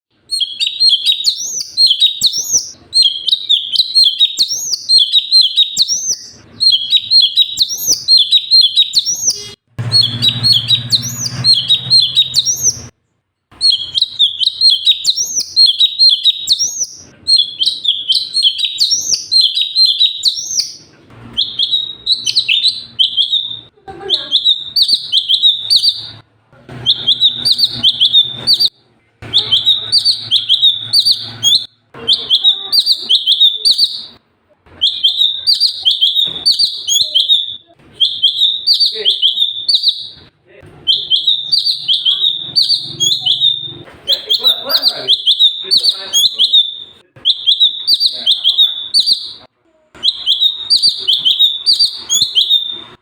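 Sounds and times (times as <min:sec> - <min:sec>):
songbird whistling song: 0:00.2 - 0:12.9, 0:13.5 - 0:34.2, 0:34.8 - 0:53.0.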